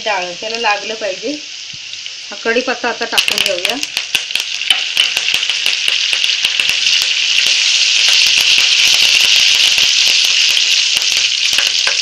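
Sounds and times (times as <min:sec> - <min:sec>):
leaves sizzling in hot oil: 0:00.0 - 0:12.0.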